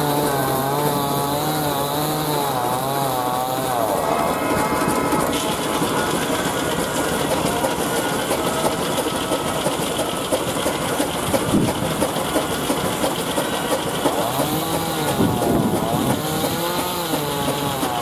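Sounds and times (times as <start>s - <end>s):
steam engine driving a saw: 0.0s - 18.0s
rapid mechanical clatter: 0.1s - 18.0s.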